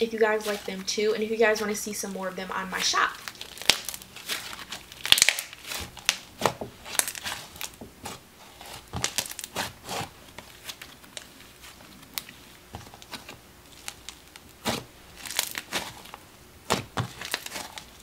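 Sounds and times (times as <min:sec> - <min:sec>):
slime crackling and popping: 0:02.5 - 0:18.0.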